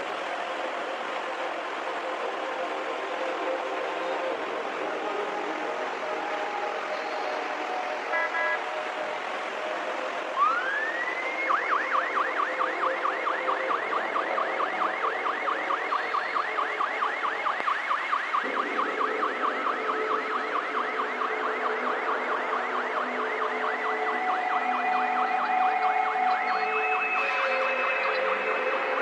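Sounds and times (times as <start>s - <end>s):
steady held siren tones: 5.5s - 29.0s.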